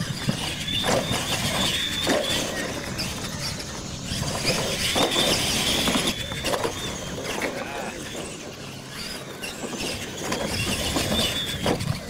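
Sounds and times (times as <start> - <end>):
toy truck motor whine: 0.0 - 12.0
trucks knocking and clattering: 0.0 - 12.0.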